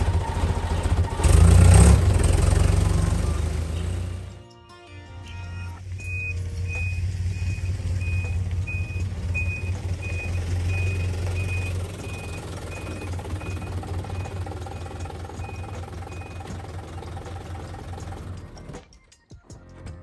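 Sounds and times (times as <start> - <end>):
truck backup alarm beeping: 0.0 - 4.4, 5.3 - 18.7
truck engine drone: 0.0 - 20.0.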